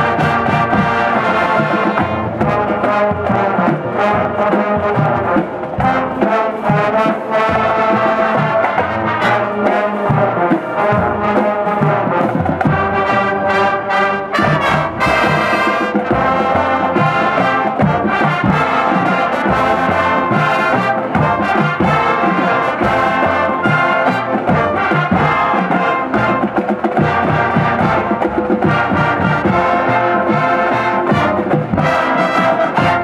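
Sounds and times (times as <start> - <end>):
brass ensemble playing: 0.0 - 33.0.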